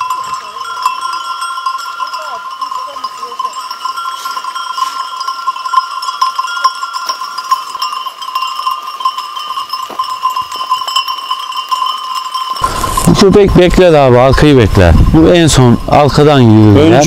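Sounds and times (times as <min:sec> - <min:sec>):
sheep bells jangling: 0:00.0 - 0:17.0.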